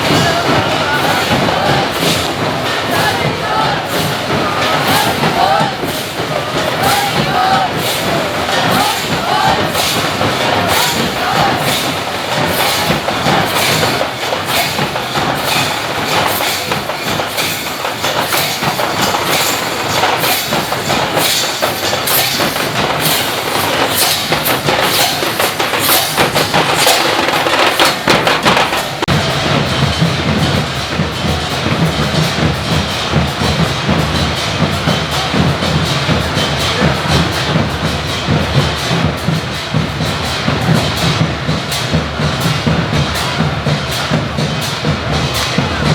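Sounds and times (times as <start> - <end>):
drums beating: 0.0 - 45.9
metal hand cymbals: 0.0 - 45.9.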